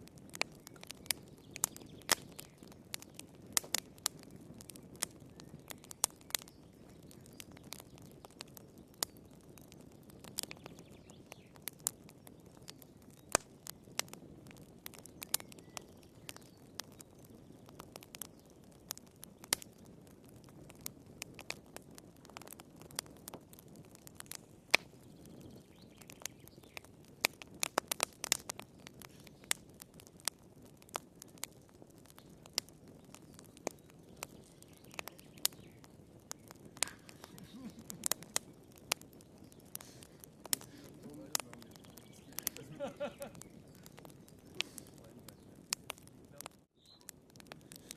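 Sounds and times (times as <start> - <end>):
fire popping and snapping: 0.0 - 47.9
wood fire crackling: 0.0 - 47.9.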